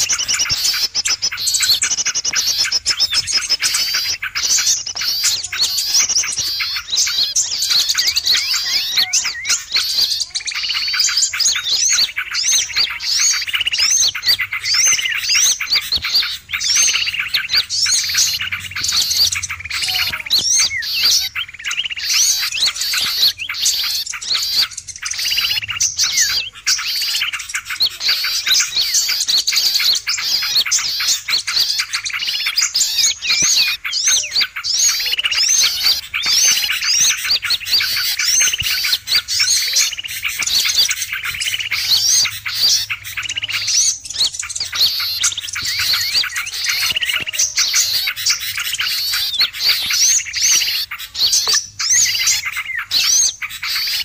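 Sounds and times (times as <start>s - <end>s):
flock of songbirds chirping: 0.0s - 54.0s.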